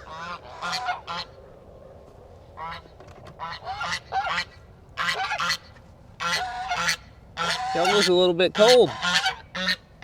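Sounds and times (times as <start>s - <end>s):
geese honking: 0.0s - 1.4s, 2.6s - 9.9s.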